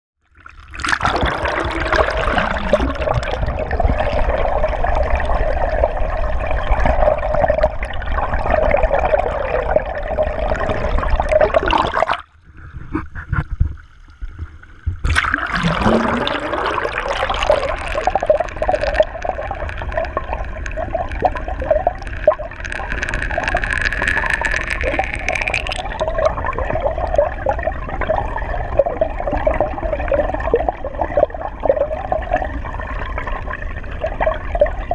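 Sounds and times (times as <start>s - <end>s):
water rushing and gurgling: 1.0s - 13.3s, 15.0s - 31.0s.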